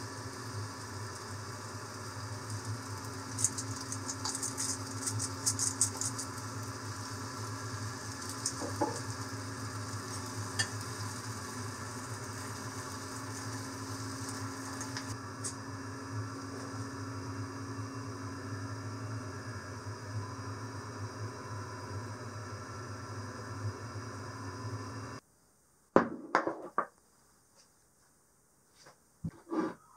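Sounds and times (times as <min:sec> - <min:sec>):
noodles sizzling in a pot: 0:00.0 - 0:25.2
steady low hum: 0:00.0 - 0:25.2.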